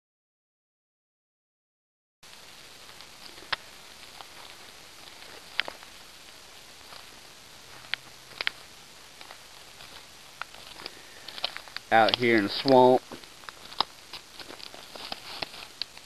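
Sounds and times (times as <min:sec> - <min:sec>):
footsteps crackling through dead leaves: 0:02.2 - 0:16.0
steady hiss: 0:02.2 - 0:16.0.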